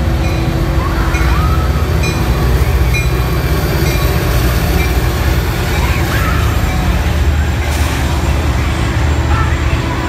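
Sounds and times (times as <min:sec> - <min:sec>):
diesel locomotive engine rumble: 0:00.0 - 0:10.0
rail noise: 0:00.0 - 0:10.0.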